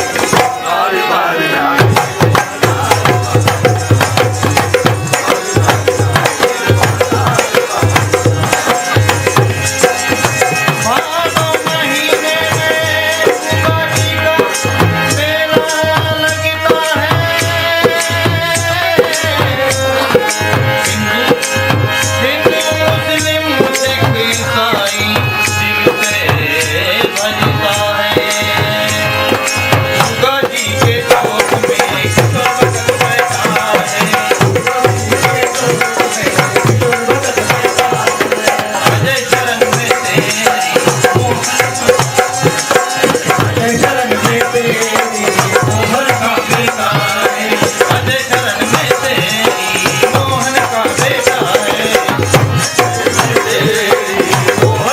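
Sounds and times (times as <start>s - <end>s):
hand drum beat: 1.8s - 16.1s, 16.7s - 54.9s.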